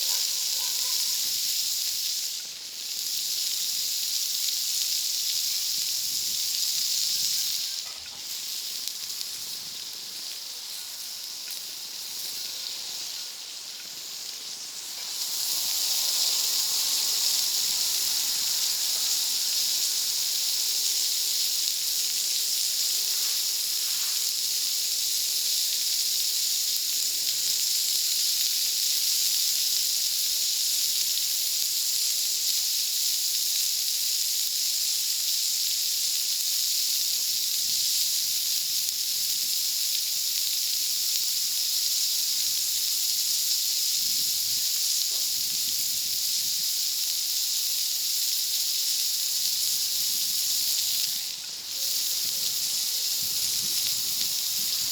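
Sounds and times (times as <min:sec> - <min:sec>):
food sizzling on a griddle: 0:00.0 - 0:54.9.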